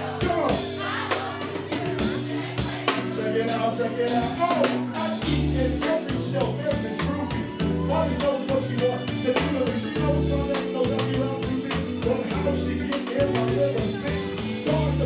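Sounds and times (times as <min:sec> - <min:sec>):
loud hip-hop beat: 0:00.0 - 0:15.0.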